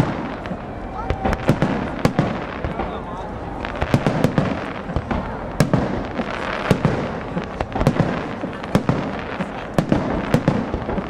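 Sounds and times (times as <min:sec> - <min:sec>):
dense background noise: 0:00.0 - 0:11.0
fireworks bangs: 0:00.0 - 0:11.0.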